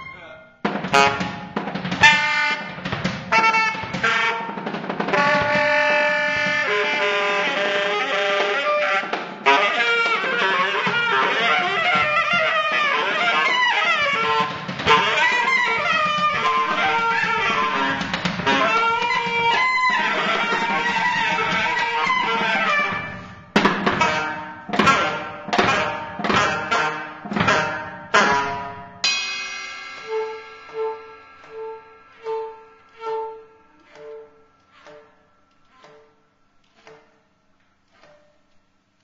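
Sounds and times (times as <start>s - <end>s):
saxophone ensemble playing: 0.0s - 28.9s, 29.9s - 35.9s
drums: 0.0s - 35.1s.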